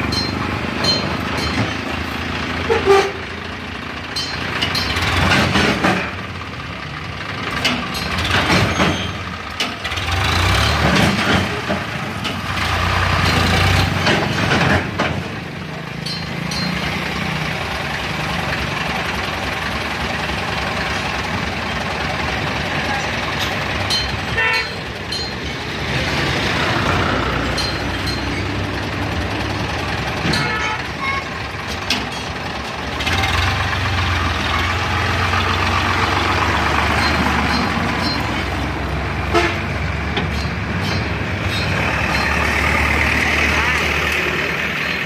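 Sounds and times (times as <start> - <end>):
diesel engine running: 0.0 - 45.0
road noise: 0.0 - 45.0.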